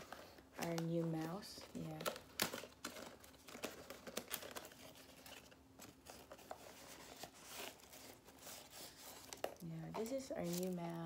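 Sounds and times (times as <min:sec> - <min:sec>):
packaging rustling and tearing: 0:00.0 - 0:11.0.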